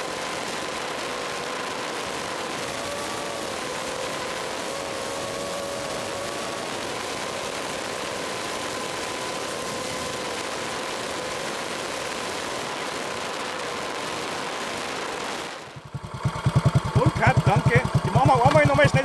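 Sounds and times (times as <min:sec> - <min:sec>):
drone propellers whirring: 0:00.0 - 0:19.0
faint motor whine: 0:00.0 - 0:19.0.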